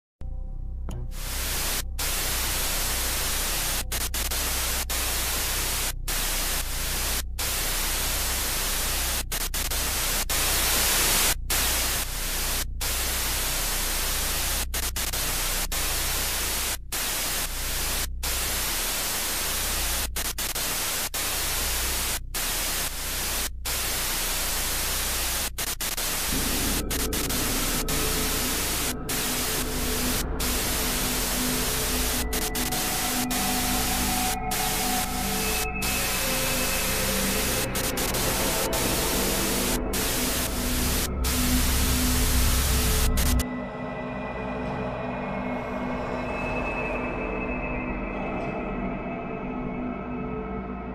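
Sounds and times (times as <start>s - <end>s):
steady tones: 0.9s - 43.4s
television static hiss: 1.0s - 43.4s.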